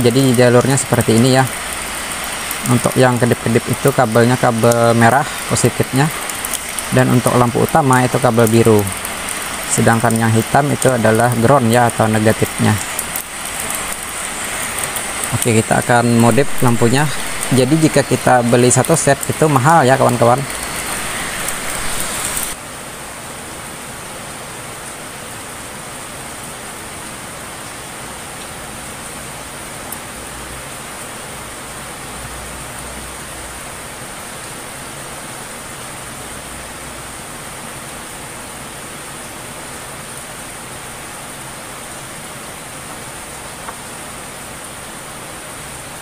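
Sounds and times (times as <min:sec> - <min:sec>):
steady background hiss: 0:00.0 - 0:46.0.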